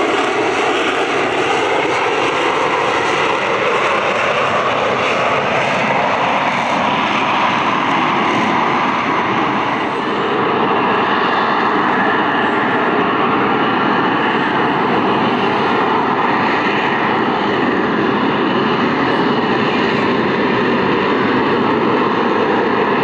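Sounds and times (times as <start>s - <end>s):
aircraft engine in flight: 0.0s - 23.0s.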